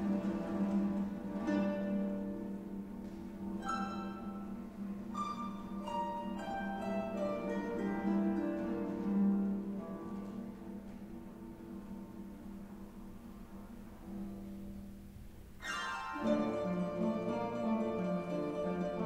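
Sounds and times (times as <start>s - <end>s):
harp playing: 0.0s - 15.0s, 15.6s - 19.0s.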